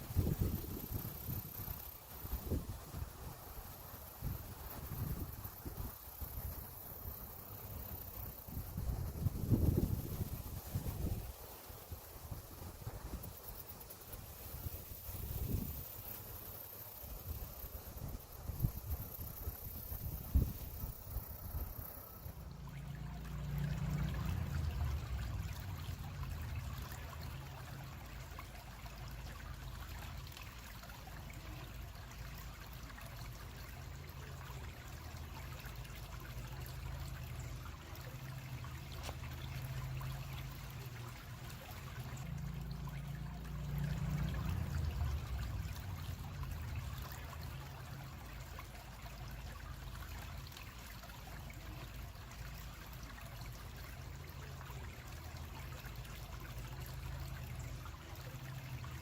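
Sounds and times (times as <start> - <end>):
creek babbling: 0.0 - 59.0.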